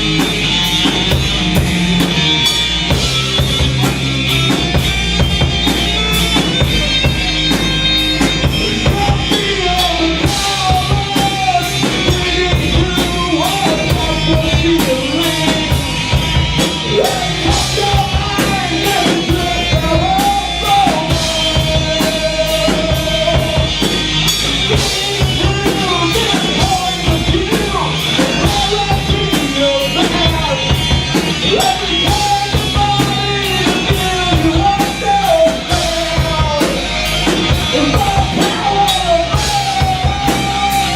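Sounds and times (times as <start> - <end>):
melodic lead guitar line: 0.0 - 40.9
rock band playing: 0.0 - 40.9.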